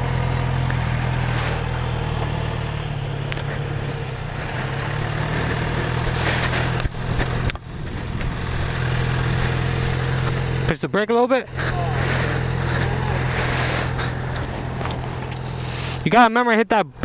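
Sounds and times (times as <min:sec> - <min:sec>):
motorcycle engine idling: 0:00.0 - 0:16.1.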